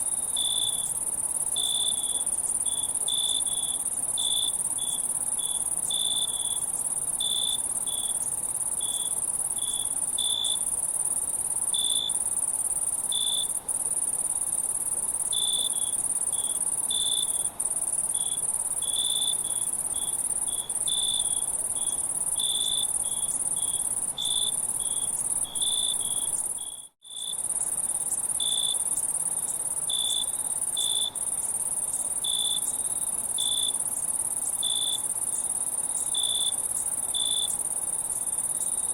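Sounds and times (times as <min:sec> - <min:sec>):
crickets trilling: 0:00.0 - 0:38.9
high cricket chirps: 0:00.0 - 0:38.9.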